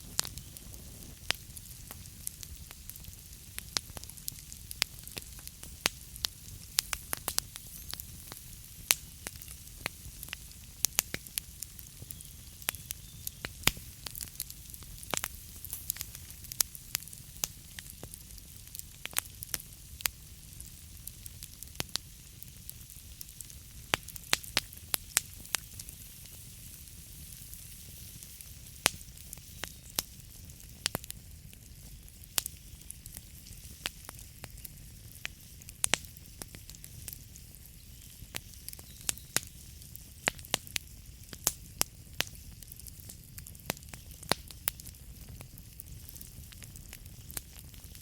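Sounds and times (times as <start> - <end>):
burning logs crackling and popping: 0.0 - 48.0
fire hissing: 0.0 - 48.0.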